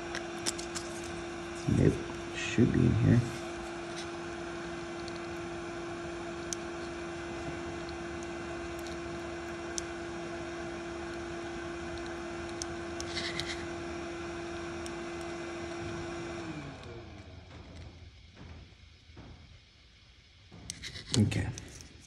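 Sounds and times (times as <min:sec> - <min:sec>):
electric blower fan humming: 0:00.0 - 0:22.0.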